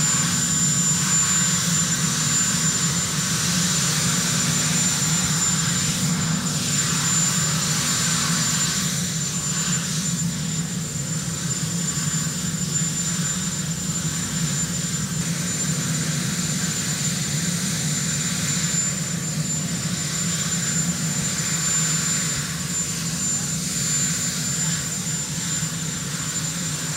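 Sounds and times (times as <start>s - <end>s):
helicopter turbine whine: 0.0s - 26.9s.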